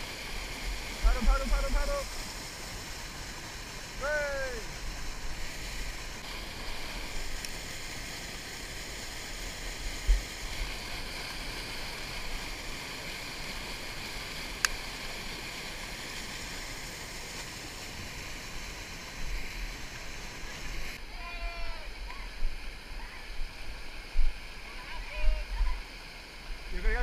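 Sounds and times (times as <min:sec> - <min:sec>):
whitewater rushing: 0:00.0 - 0:27.0.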